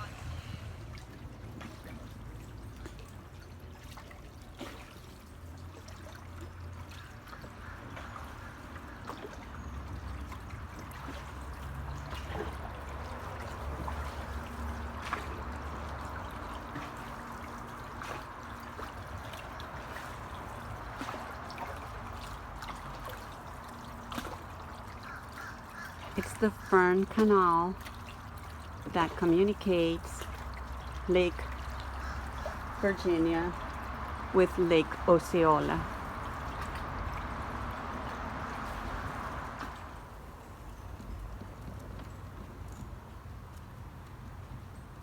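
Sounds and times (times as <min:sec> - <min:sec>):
water trickling and dripping: 0:00.0 - 0:45.0.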